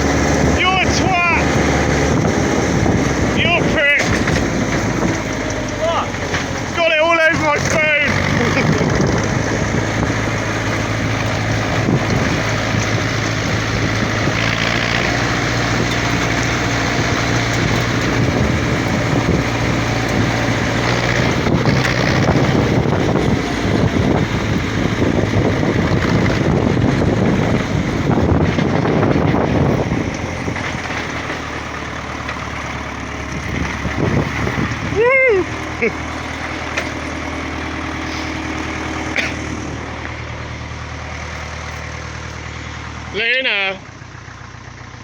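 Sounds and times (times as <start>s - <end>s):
heavy machine engine running: 0.0s - 45.0s.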